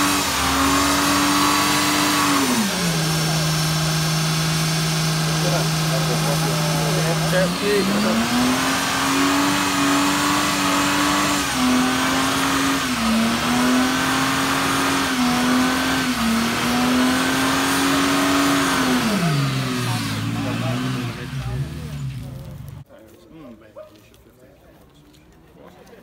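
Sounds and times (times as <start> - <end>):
car engine revving: 0.0 - 22.8
tyres spinning: 0.0 - 22.8.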